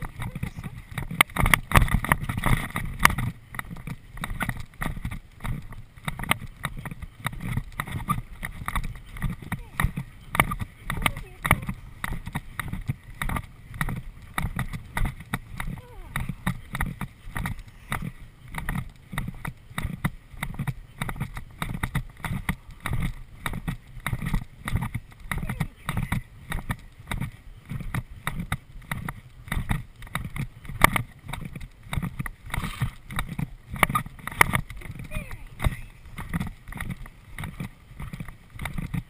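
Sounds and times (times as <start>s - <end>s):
horse hoofbeats on grass: 0.0s - 39.0s.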